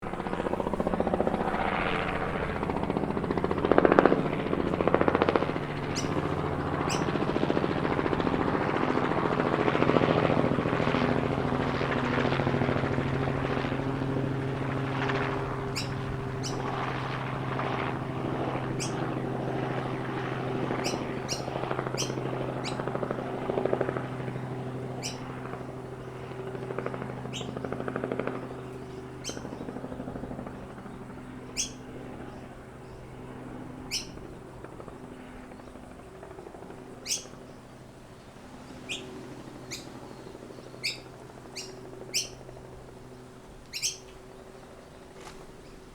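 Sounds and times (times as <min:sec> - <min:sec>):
birds chirping: 0:00.0 - 0:08.5, 0:14.3 - 0:45.9
helicopter rotor and engine drone: 0:00.0 - 0:45.9.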